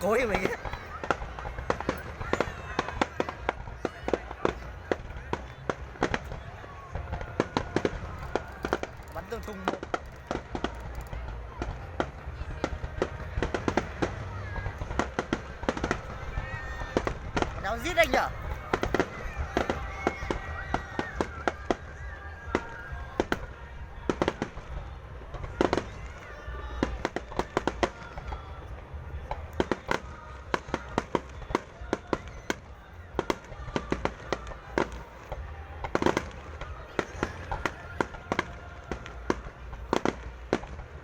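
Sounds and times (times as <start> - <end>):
fireworks bursting: 0.0 - 41.0
loud firework booms: 0.0 - 41.0.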